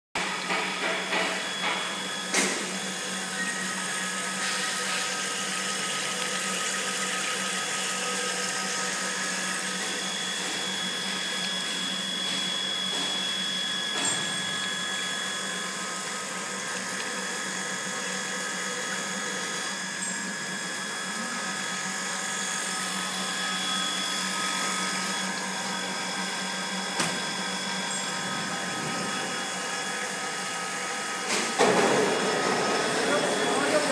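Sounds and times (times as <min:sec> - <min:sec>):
machine hum: 0:00.2 - 0:33.9
high steady whine tones: 0:00.8 - 0:33.9.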